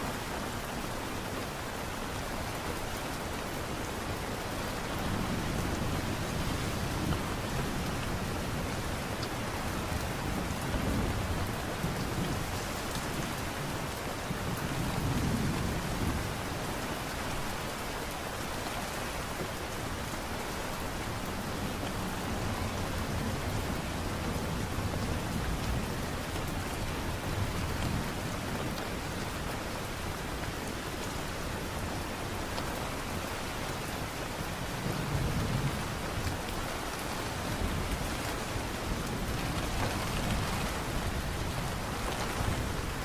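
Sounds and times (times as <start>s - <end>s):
light rain: 0.0s - 43.0s.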